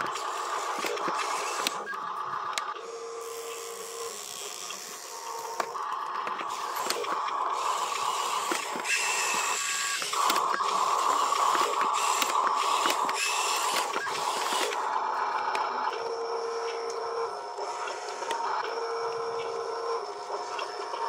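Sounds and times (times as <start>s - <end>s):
toy truck motor whirring: 0.0s - 21.0s.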